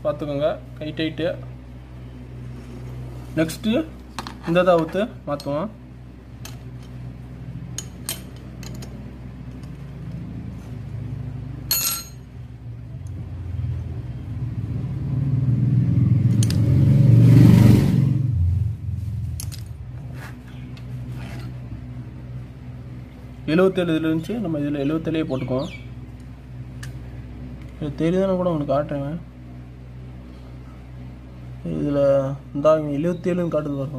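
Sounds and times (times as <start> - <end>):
vehicle passing with low rumble: 0.0 - 33.9.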